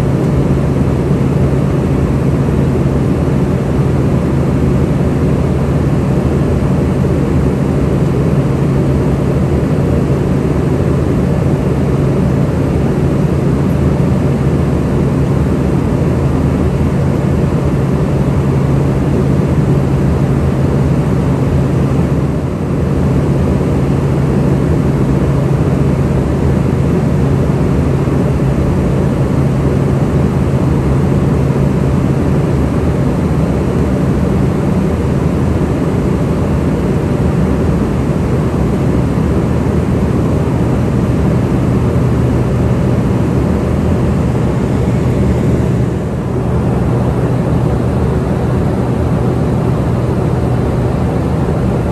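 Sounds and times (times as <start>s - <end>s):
aircraft cabin drone: 0.0s - 51.9s.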